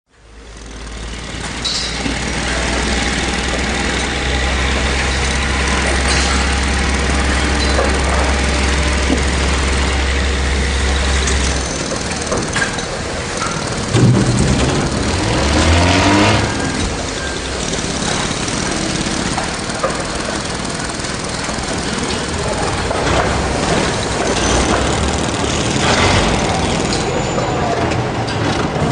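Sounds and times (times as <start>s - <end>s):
heavy machinery engines running: 0.1s - 28.9s
low steady drone: 0.2s - 27.8s
engine revving: 0.2s - 28.9s
knocks and clatter: 0.5s - 28.9s.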